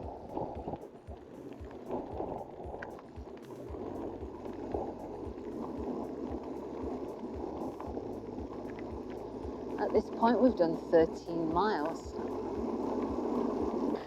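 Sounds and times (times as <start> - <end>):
bike tyres rumbling on tarmac: 0.0 - 14.0
wind on microphone: 0.0 - 14.0.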